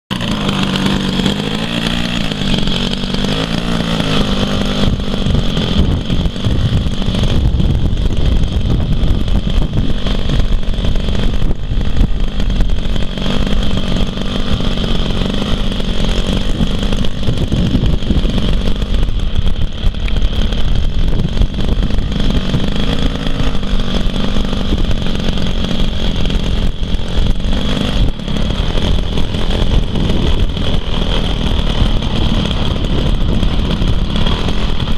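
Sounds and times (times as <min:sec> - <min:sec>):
heavy low rumble: 0:00.1 - 0:34.9
model aeroplane engine running: 0:00.1 - 0:34.9.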